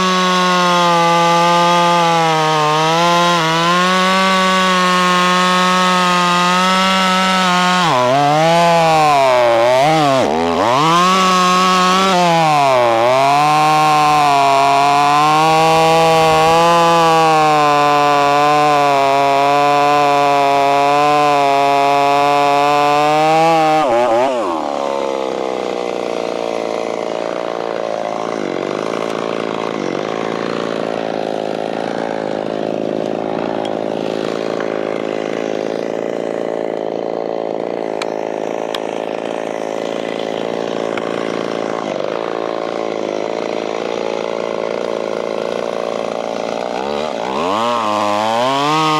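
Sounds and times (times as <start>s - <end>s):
chainsaw cutting wood: 0.0s - 48.9s
chainsaw idling: 0.0s - 48.9s.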